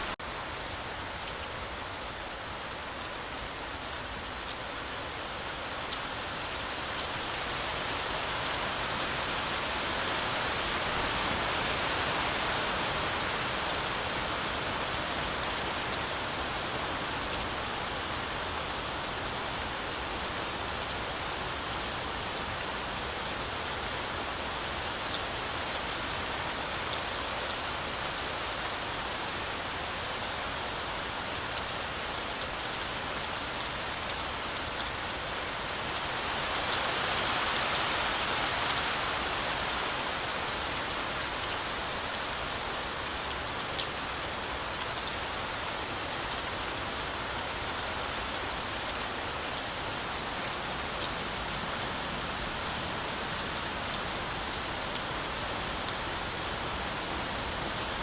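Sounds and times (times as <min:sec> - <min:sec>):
heavy rain on forest canopy: 0:00.0 - 0:58.0.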